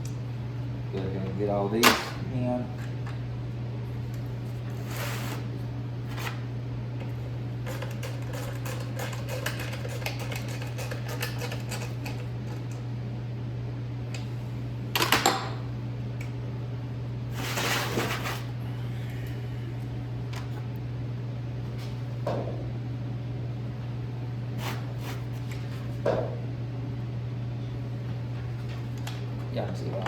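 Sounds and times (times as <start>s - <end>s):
heater humming: 0.0s - 30.0s.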